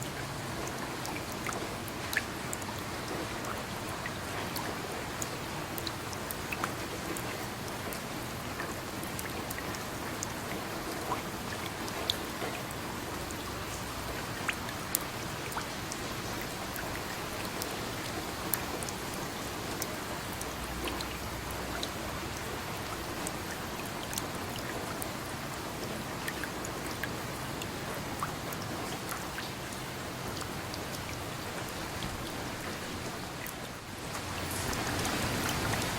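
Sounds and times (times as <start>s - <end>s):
raindrops ticking close by: 0.0s - 35.9s
steady rain hiss: 0.0s - 35.9s.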